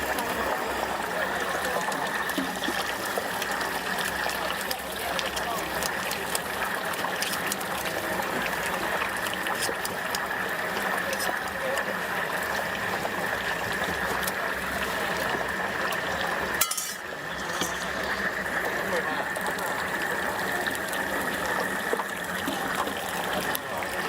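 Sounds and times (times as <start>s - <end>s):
oil sizzling and popping: 0.0s - 24.0s.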